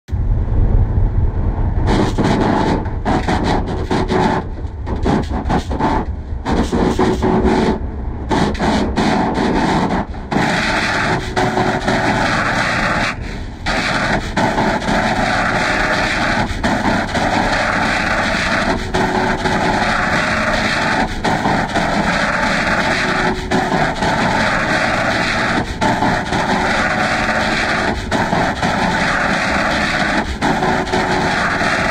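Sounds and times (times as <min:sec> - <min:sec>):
harsh distorted audio: 0:00.1 - 0:31.9.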